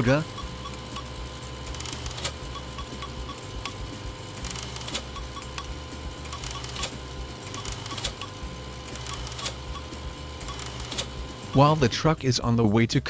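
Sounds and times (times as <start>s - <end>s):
stepper motors whining: 0.0s - 12.2s.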